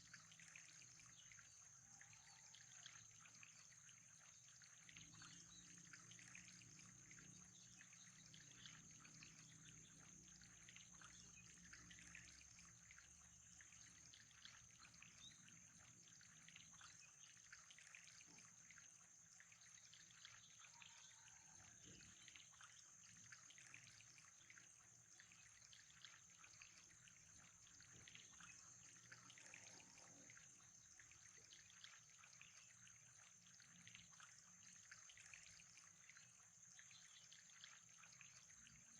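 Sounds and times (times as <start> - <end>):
faint trickling water: 0.0 - 38.9.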